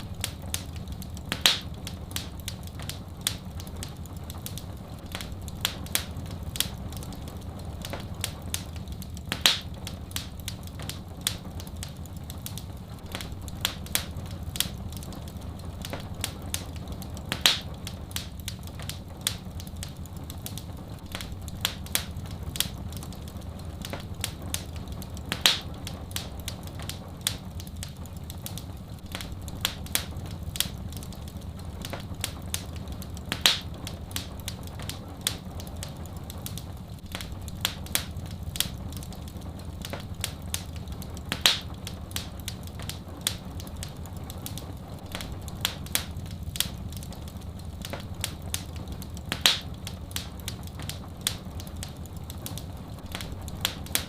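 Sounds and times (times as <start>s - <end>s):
soft rain hiss: 0.0s - 54.0s
wood fire crackling: 0.0s - 54.0s.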